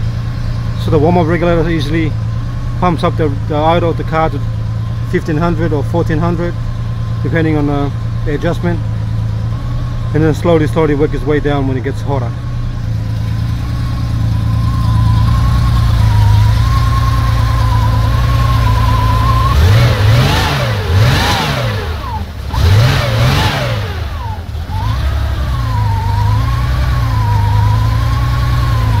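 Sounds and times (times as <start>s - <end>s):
car engine idling: 0.0s - 29.0s
engine revving: 0.0s - 29.0s.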